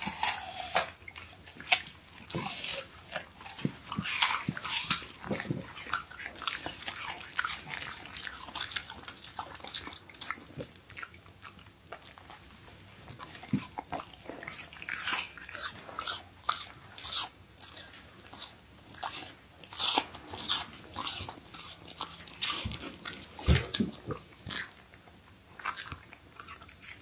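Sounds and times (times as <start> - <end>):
dog crunching apple: 0.0 - 27.0
wet chewing clicks: 0.0 - 27.0.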